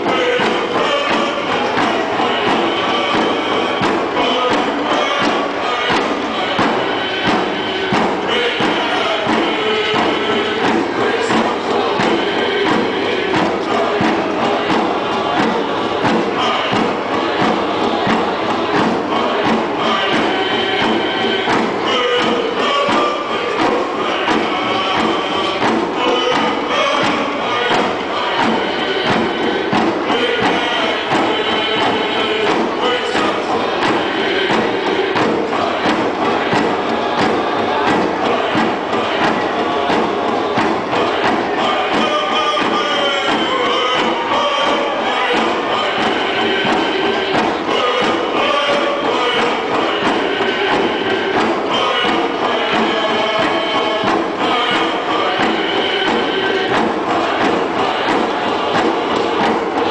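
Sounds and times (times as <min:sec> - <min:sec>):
crowd murmur: 0:00.0 - 0:59.9
drums beating: 0:00.0 - 0:59.9
group singing: 0:00.0 - 0:59.9.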